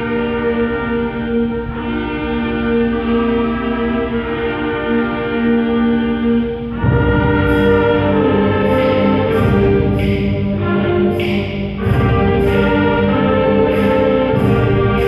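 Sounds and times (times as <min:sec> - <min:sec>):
concert band playing: 0:00.0 - 0:15.0.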